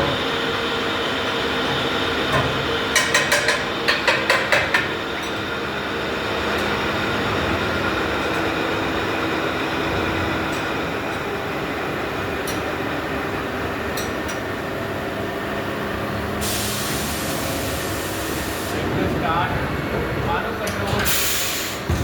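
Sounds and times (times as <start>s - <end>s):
machine-shop machinery noise: 0.0s - 22.0s.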